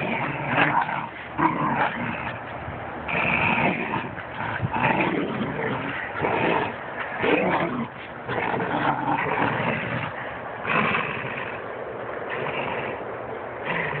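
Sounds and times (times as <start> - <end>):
dogs growling: 0.0 - 14.0.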